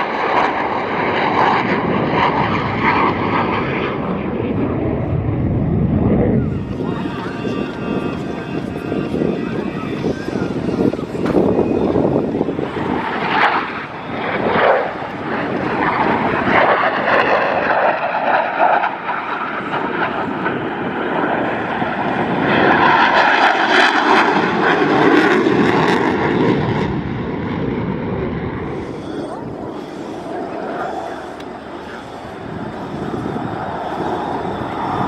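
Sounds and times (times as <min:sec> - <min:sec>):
jet roar: 0:00.0 - 0:35.0.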